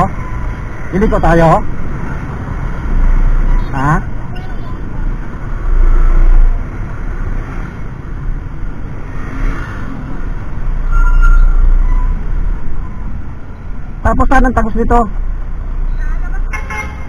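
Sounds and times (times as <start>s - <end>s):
road and traffic rumble: 0.0s - 17.0s.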